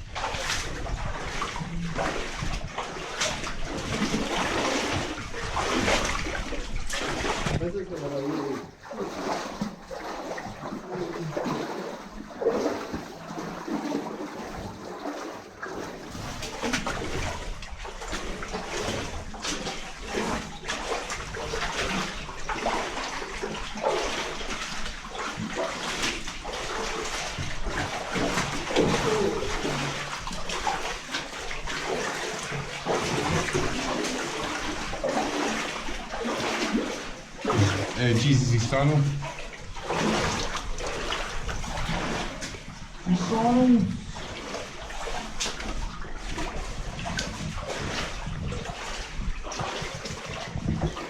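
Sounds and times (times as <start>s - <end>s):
people wading through water: 0.0s - 51.0s.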